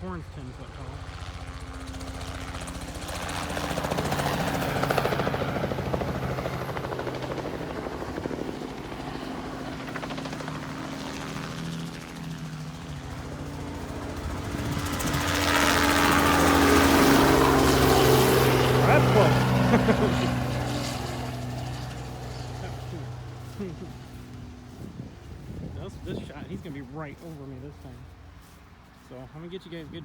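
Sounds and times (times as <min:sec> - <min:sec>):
helicopter rotor thump and engine: 0:00.0 - 0:30.0.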